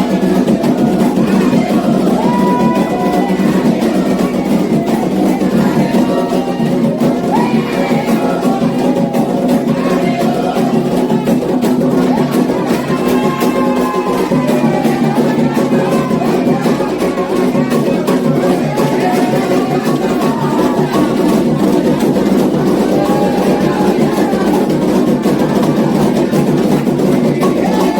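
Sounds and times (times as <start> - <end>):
bell-like percussion: 0.0 - 27.9
hand drums beating: 0.0 - 27.9
voices singing a chant: 0.0 - 27.9.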